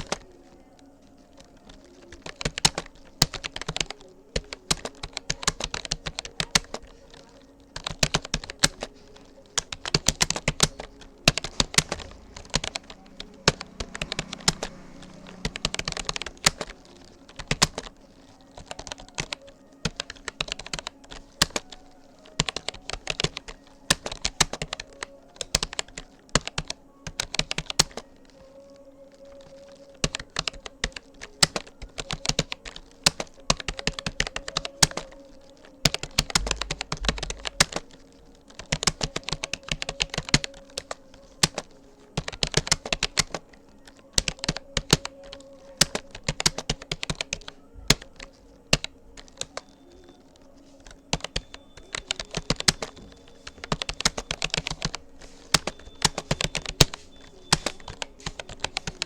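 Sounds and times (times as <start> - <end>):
keyboard key clicks: 1.3 - 28.4, 29.3 - 59.0.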